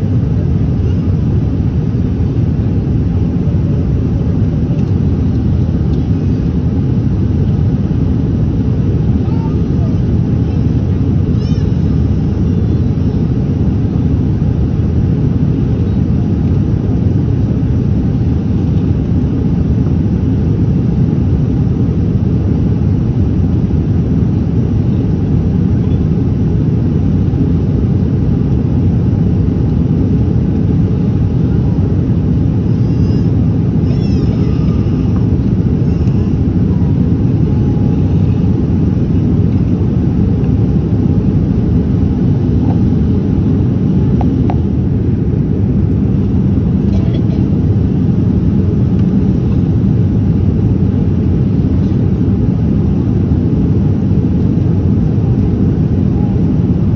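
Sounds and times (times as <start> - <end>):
airliner cabin engine noise: 0.0 - 56.9.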